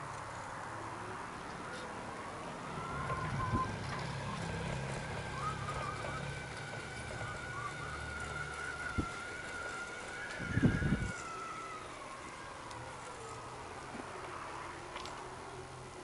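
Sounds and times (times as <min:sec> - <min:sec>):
high whine: 0:00.0 - 0:15.9
vehicle riding rumble: 0:00.0 - 0:16.0.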